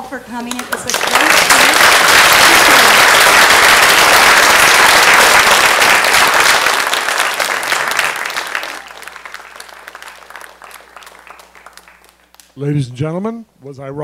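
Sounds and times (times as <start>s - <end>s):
audience applauding: 0.5s - 12.6s.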